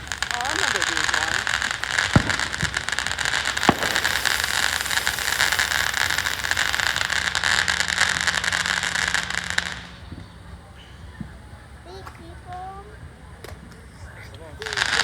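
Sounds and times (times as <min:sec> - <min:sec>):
firework hissing and crackling: 0:00.0 - 0:12.9, 0:14.4 - 0:15.0.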